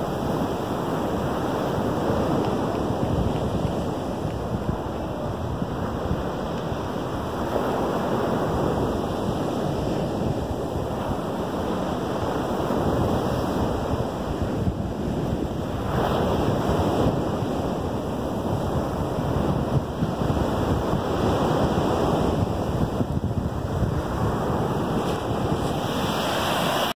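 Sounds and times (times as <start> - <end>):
surf on sandy beach: 0.0 - 26.9.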